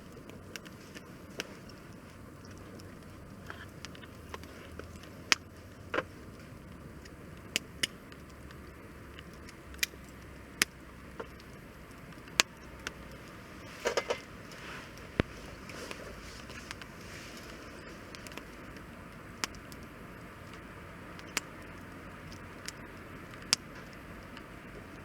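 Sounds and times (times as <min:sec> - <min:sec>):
low steady hiss: 0:00.0 - 0:25.0
wood fire crackling and popping: 0:00.0 - 0:25.0.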